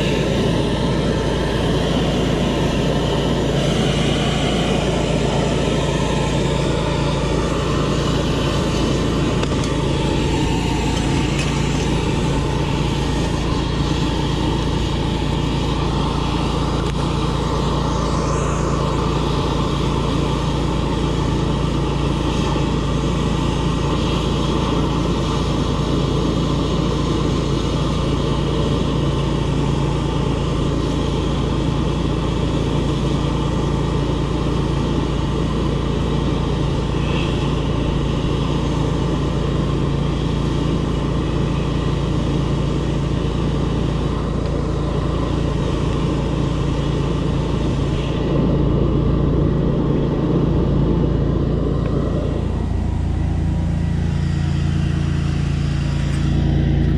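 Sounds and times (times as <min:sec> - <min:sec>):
engine and pump droning: 0:00.0 - 0:56.9.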